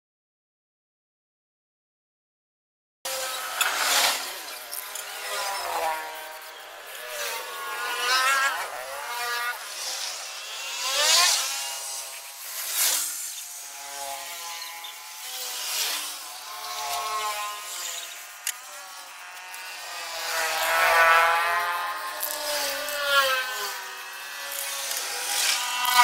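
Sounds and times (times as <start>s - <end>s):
engine revving: 3.1s - 26.0s
spray paint can hissing: 3.2s - 26.0s.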